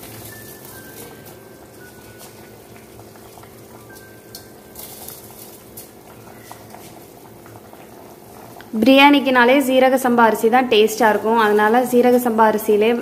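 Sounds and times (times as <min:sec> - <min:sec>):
water boiling with pops: 0:00.0 - 0:13.0.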